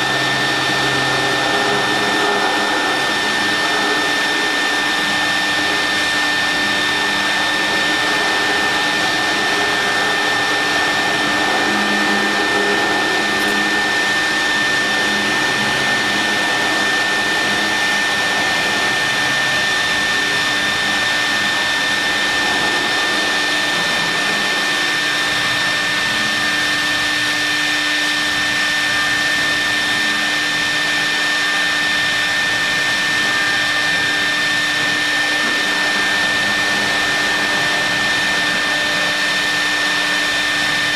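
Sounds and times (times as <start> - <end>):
milling machine whining: 0.0 - 40.9.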